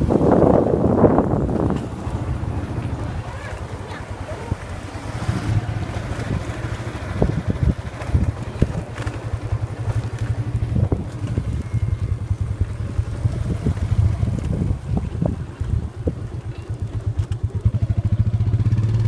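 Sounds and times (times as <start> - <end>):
wind on microphone: 0.0 - 18.8
motorbike engine running: 0.0 - 19.0.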